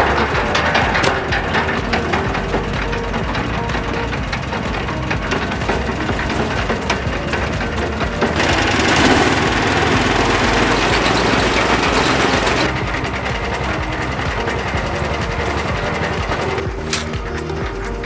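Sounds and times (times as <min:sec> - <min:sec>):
concrete mixer engine running: 0:00.0 - 0:18.0
loud rushing noise: 0:00.0 - 0:18.0.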